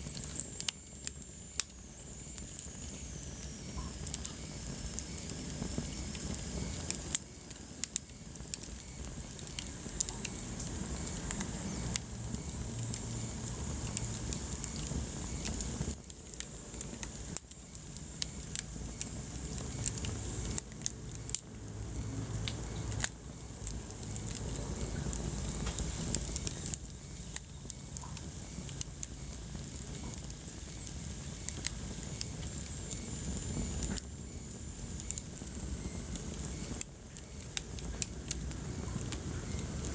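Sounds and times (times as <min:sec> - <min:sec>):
fire flames rumbling: 0:00.0 - 0:39.9
logs crackling and popping: 0:00.0 - 0:39.9.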